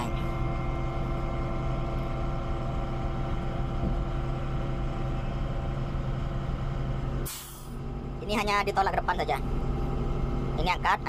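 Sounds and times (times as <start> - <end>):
diesel engine running steadily: 0.0 - 11.0.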